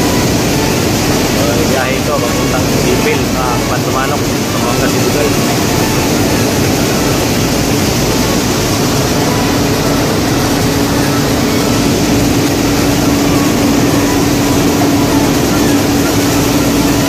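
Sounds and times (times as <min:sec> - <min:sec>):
steady hum: 0:00.0 - 0:17.0
truck engine running: 0:00.0 - 0:17.0.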